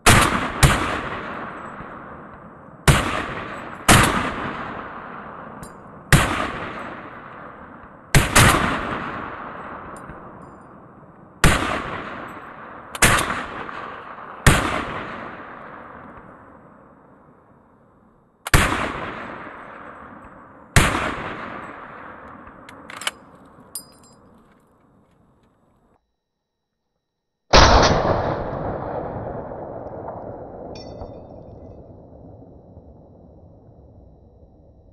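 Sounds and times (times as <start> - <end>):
rifle shots ringing out: 0.0 - 25.4, 27.5 - 32.2.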